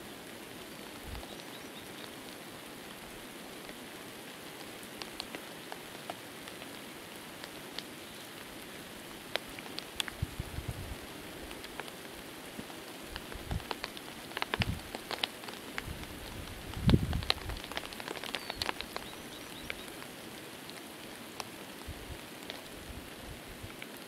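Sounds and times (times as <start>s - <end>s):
light rain hissing: 0.0s - 24.0s
raindrops ticking: 0.0s - 24.0s.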